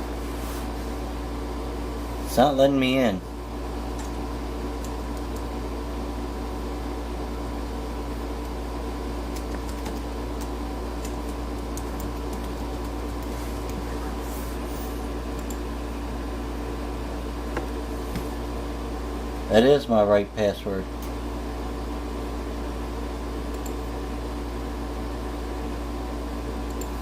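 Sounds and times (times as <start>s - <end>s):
machine hum with steady tones: 0.0s - 27.0s.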